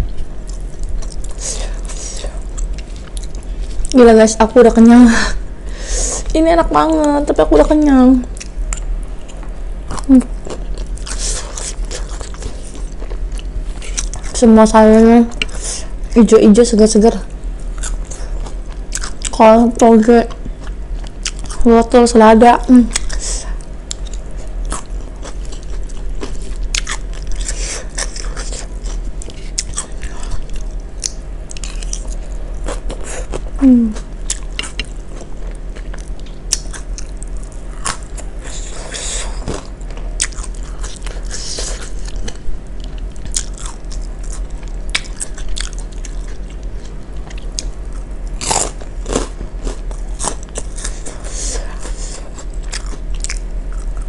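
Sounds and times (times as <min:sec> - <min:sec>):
chewing and crunching salad: 0:00.0 - 0:05.0, 0:06.1 - 0:54.0.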